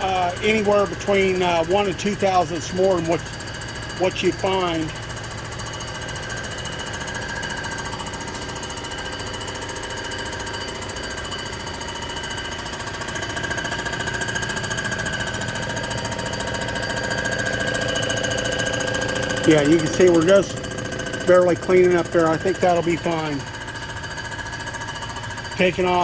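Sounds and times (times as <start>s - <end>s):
surfacing machine whine: 0.0s - 26.0s.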